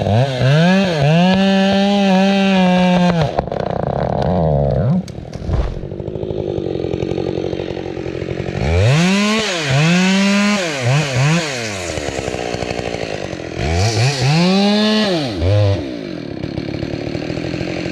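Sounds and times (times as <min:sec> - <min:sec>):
chainsaw engine revving: 0:00.0 - 0:17.9.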